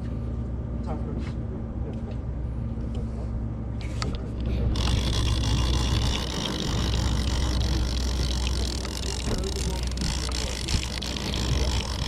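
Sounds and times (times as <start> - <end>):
boat engine humming: 1.6 - 12.0.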